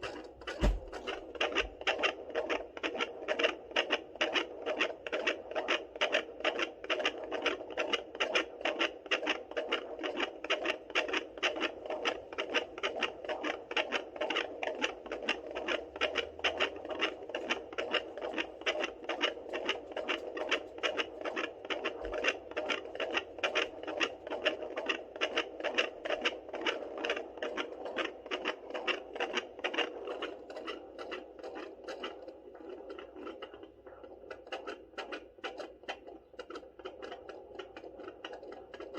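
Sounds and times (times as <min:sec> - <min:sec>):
fetal doppler heartbeat pulses: 0:00.0 - 0:38.9.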